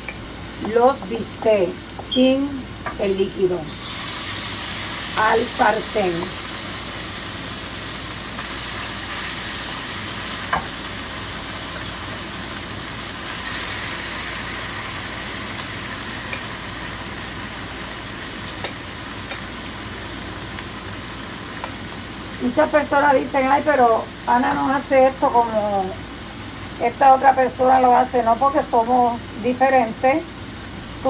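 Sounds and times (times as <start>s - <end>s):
beef sizzling in skillet: 2.8s - 28.9s.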